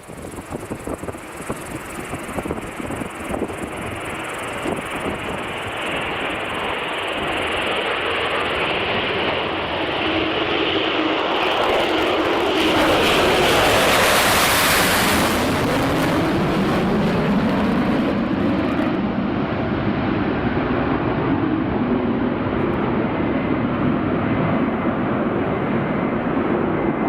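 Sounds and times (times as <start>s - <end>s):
jet bomber taking off: 0.0s - 27.0s.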